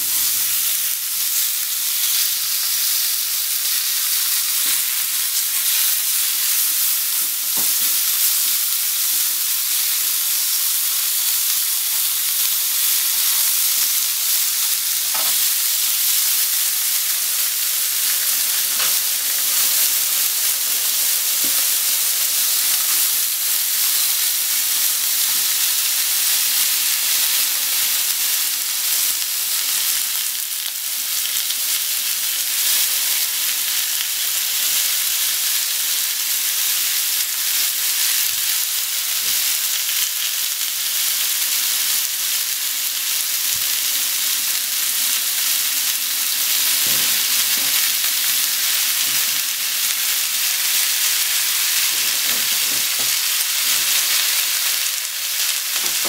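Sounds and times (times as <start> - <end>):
pork sizzling in frying pan: 0.0 - 56.0.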